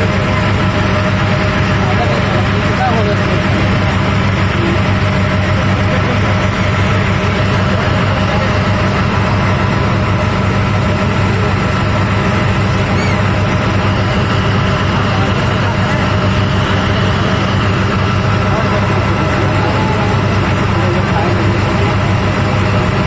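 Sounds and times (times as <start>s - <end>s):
engine droning steadily: 0.0s - 23.0s.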